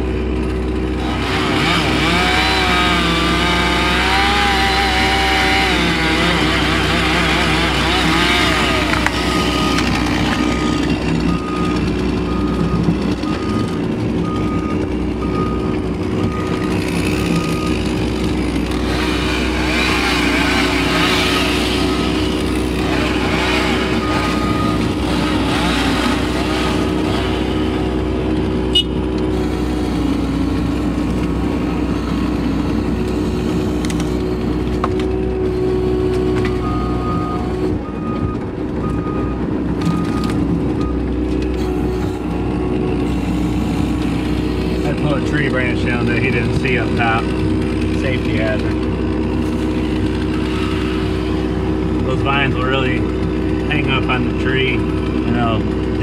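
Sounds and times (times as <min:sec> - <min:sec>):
diesel engine and hydraulics running: 0:00.0 - 0:56.0.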